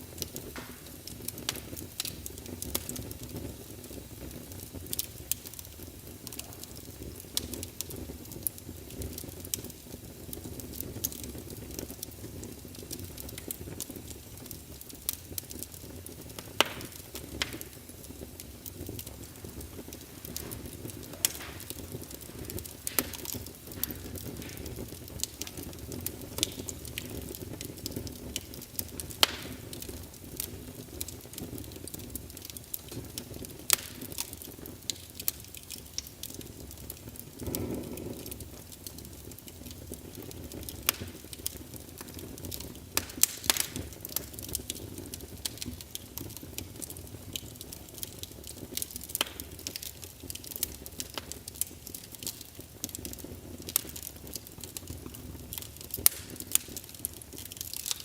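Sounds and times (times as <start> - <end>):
low rush of flame: 0.0 - 58.0
wood fire crackling: 0.0 - 58.0.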